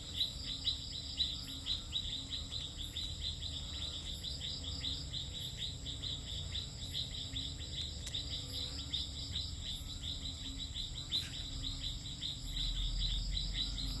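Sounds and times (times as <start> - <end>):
high-pitched insect trill: 0.0 - 14.0
short insect chirps: 0.0 - 14.0.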